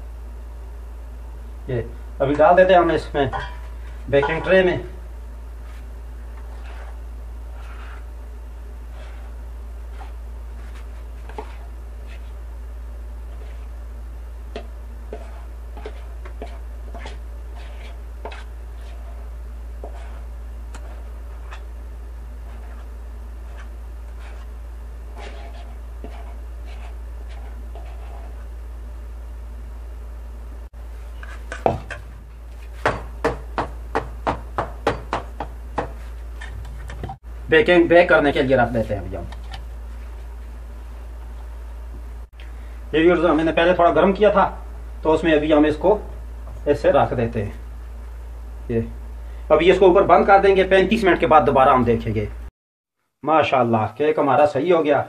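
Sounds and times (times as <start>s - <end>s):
steady low hum: 0.0s - 52.5s.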